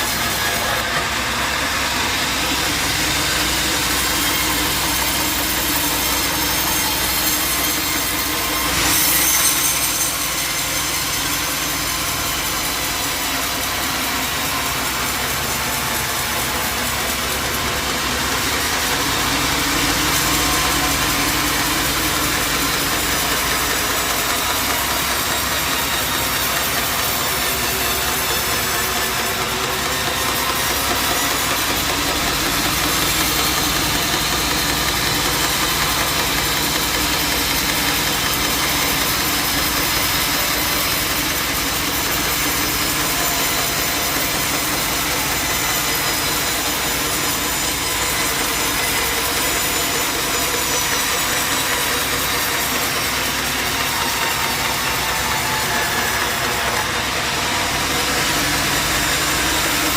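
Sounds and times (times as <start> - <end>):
sawmill engine drone: 0.0 - 59.9.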